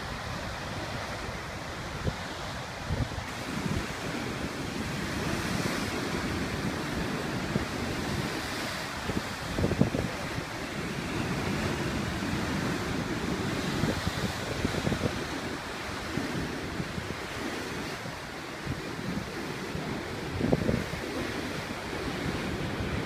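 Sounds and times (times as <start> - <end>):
heavy surf breaking on rocks: 0.0 - 23.0
wind buffeting microphone: 0.0 - 23.0.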